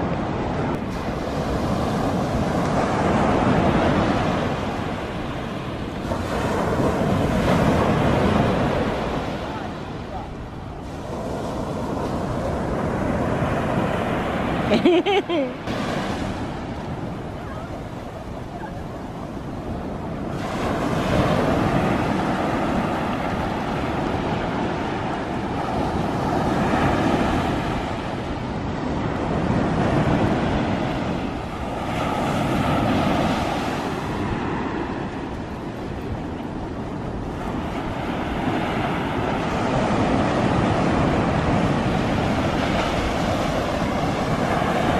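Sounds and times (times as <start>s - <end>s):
surf washing up beach: 0.0s - 44.9s
wind on microphone: 0.0s - 44.9s.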